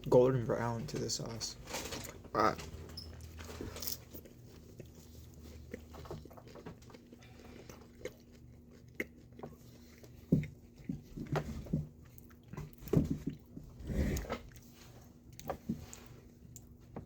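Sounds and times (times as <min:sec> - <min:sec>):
close-up chewing with mouth smacks: 0:03.1 - 0:17.0.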